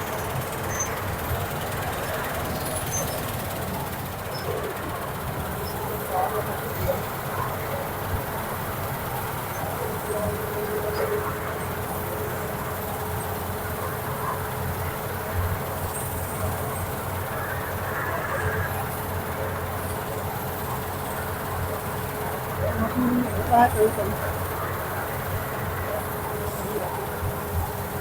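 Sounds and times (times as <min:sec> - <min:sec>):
combine harvester running: 0:00.0 - 0:28.0.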